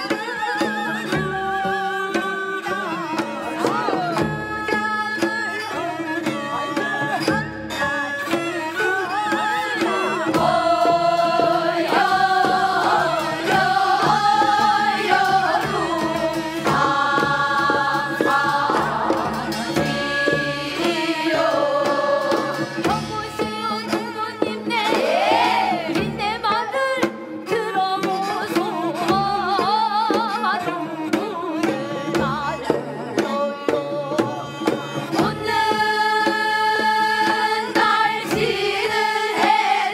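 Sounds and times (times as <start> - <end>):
drum strokes: 0.0 - 39.9.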